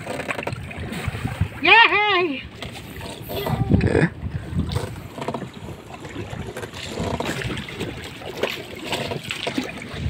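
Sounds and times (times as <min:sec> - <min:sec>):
oars pulling through water: 0:00.0 - 0:10.0
water washing against hull: 0:00.0 - 0:10.0.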